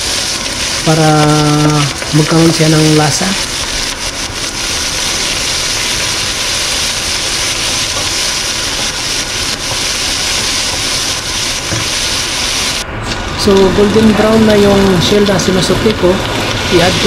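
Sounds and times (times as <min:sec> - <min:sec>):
shells sizzling in hot oil: 0:00.0 - 0:17.0.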